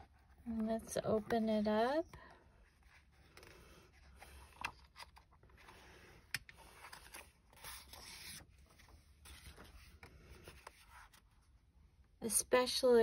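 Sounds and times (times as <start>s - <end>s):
notebook pages rustling: 0.0s - 11.7s.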